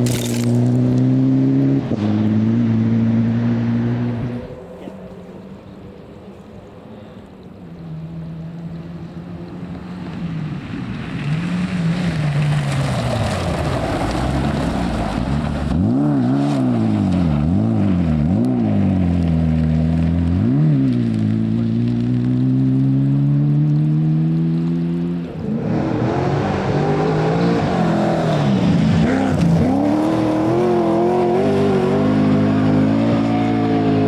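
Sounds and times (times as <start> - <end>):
rally car engine revving: 0.0 - 4.9, 8.0 - 34.0.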